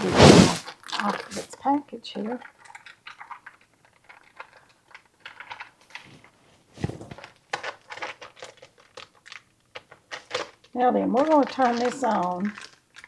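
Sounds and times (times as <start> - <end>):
foil wrapper crinkling: 0.5 - 1.6, 2.2 - 13.0.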